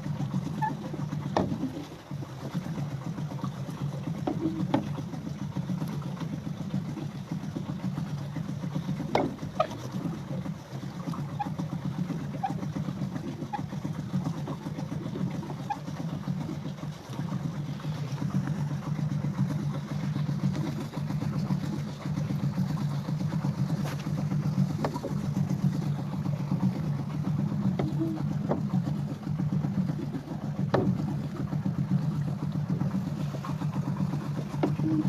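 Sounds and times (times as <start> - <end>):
paddle wheel churning: 0.0 - 35.0.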